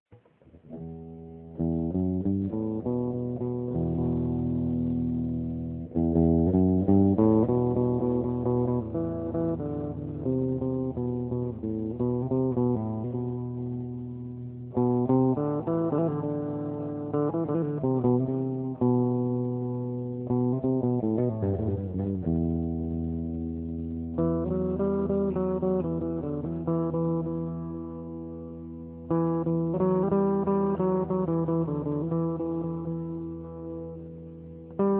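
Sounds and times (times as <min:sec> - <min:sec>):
instrumental guitar music: 0:00.1 - 0:34.9.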